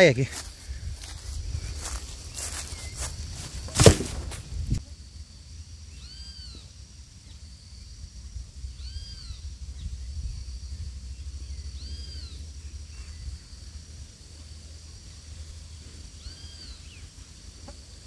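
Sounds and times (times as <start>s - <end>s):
high insect buzz: 0.0s - 18.0s.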